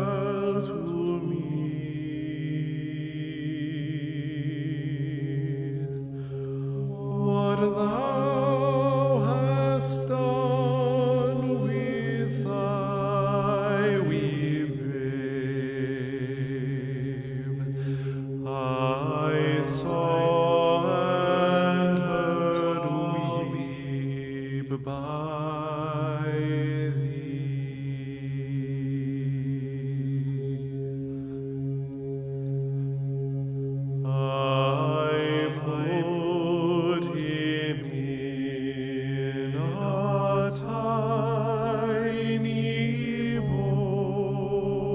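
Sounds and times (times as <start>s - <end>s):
chant-like singing: 0.0s - 31.4s, 34.0s - 44.9s
steady low drone: 0.0s - 44.9s.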